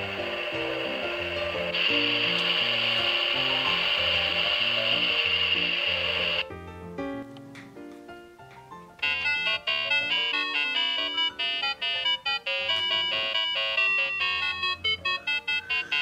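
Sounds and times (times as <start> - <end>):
tinny electronic toy tune: 0.0 - 6.5, 9.0 - 16.0.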